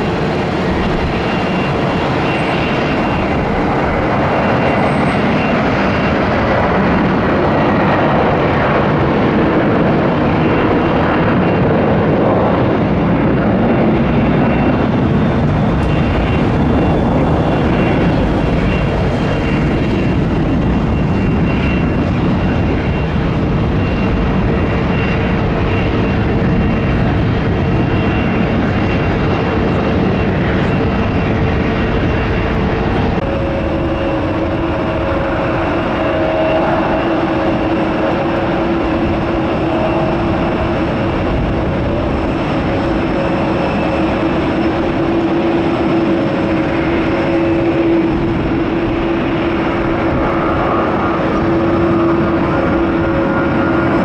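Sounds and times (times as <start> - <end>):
jet engines at take-off thrust: 0.0 - 54.0.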